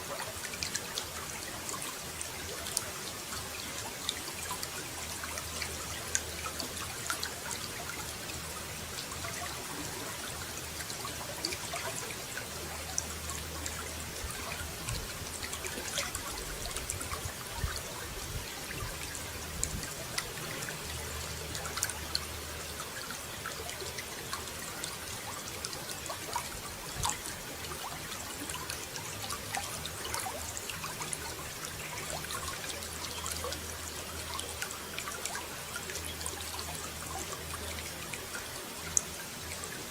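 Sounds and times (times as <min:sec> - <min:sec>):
small water drips: 0:00.0 - 0:39.9
water trickling and splashing: 0:00.0 - 0:39.9.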